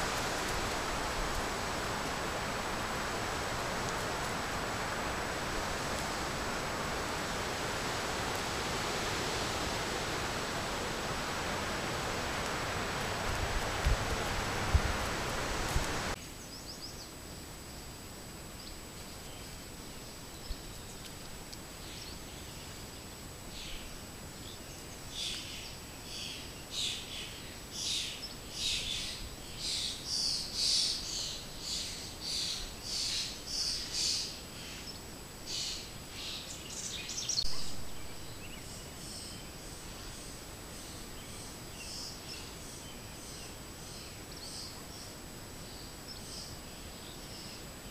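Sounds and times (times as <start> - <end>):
faint steady hiss: 0.0 - 47.9
songbird singing: 0.0 - 47.9.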